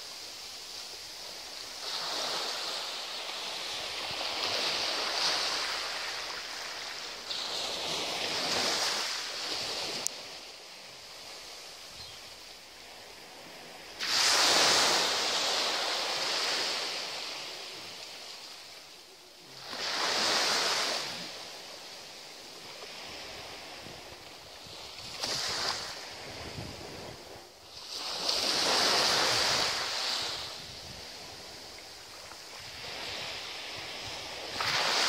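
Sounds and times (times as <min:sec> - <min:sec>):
waves washing up a beach: 0:00.0 - 0:35.0.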